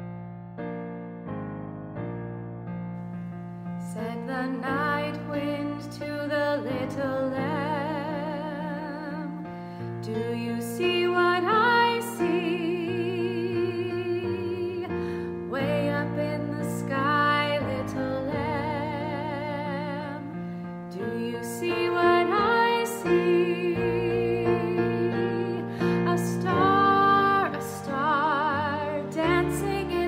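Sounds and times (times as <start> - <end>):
piano accompaniment: 0.0 - 30.0
woman singing slow song: 3.8 - 30.0.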